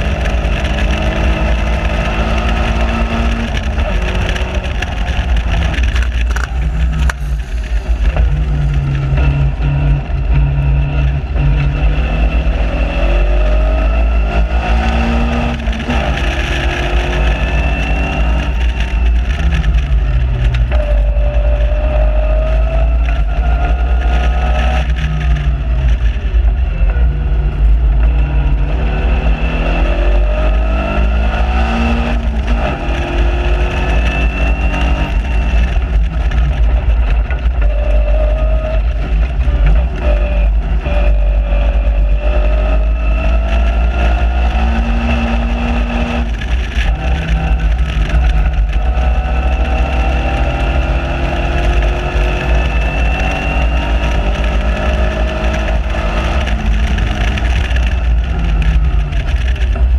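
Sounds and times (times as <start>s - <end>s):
car engine accelerating: 0.0s - 59.9s
wind rumble on microphone: 0.0s - 59.9s.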